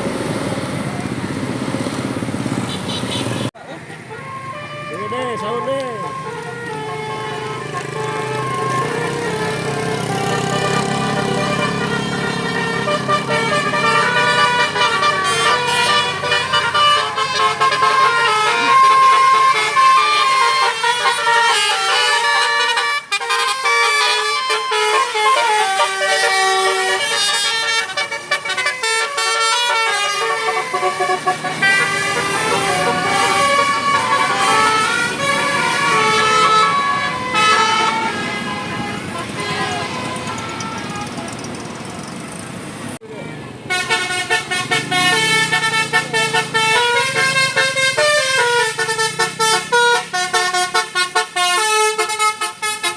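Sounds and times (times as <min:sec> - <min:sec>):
musical bus air horn tune: 0:04.2 - 0:41.8, 0:43.7 - 0:52.9.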